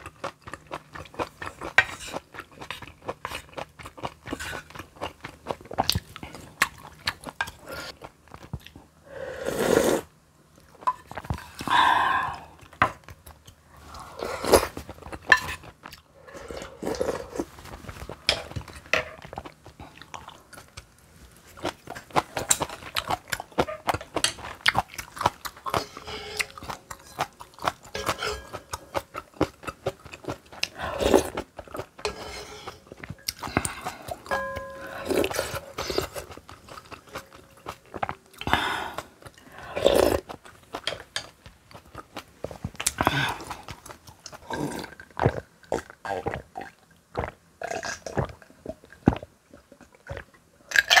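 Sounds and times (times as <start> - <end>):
chewing and crunching food: 0.0 - 9.0, 10.5 - 51.0.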